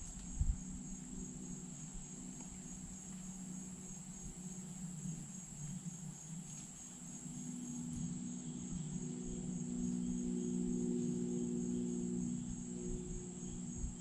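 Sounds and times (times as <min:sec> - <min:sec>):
insect chorus trilling: 0:00.0 - 0:14.0
low sustained tones: 0:00.0 - 0:14.0.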